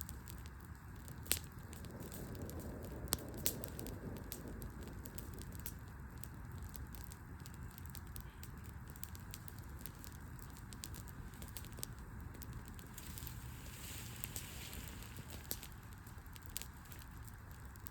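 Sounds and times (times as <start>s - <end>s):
low fire rumble: 0.0s - 17.9s
wood fire crackling: 0.0s - 17.9s.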